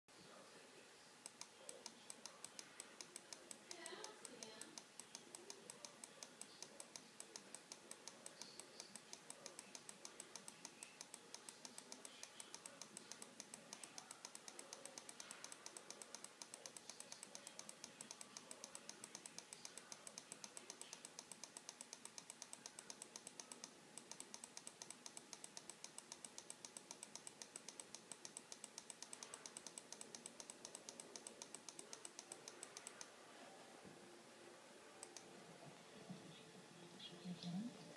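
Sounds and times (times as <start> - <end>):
faint rapid ticking: 1.1 - 33.2, 34.9 - 35.3.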